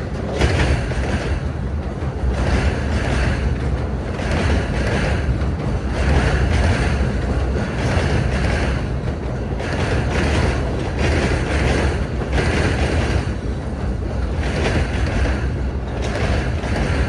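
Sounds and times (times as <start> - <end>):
freight train cars rumbling past: 0.0 - 17.0.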